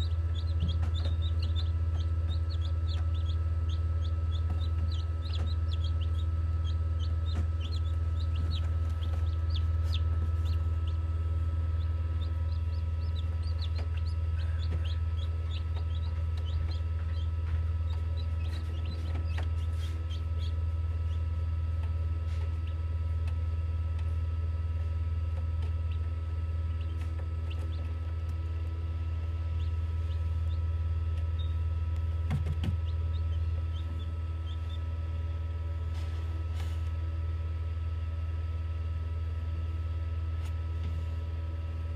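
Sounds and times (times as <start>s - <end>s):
chicks peeping: 0.0s - 24.1s, 24.8s - 36.2s
incubator humming: 0.0s - 41.9s.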